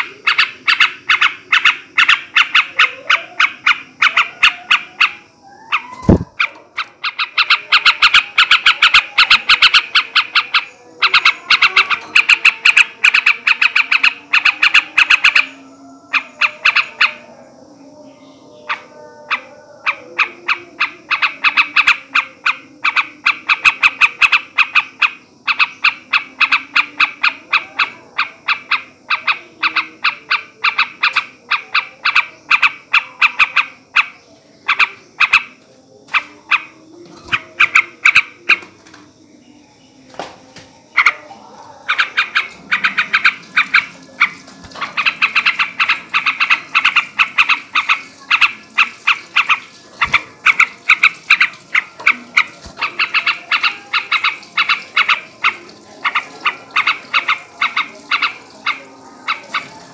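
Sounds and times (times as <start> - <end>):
bulbul chattering: 0.0 - 59.9.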